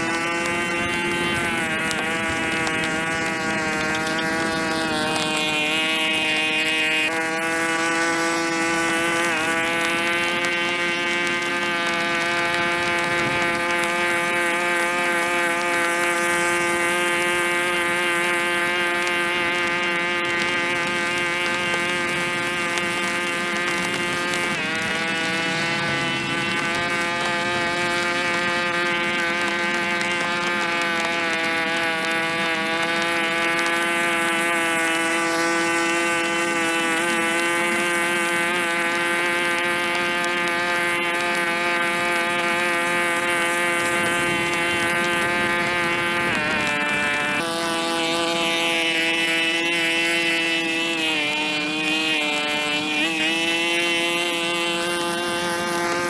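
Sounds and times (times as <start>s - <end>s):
small engine running at high speed: 0.0s - 56.0s.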